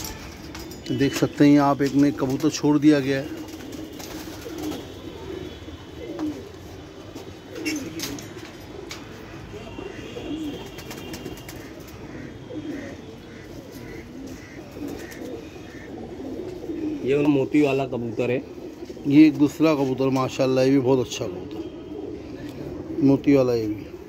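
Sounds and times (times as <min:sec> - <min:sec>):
pigeons cooing: 0:01.8 - 0:24.0.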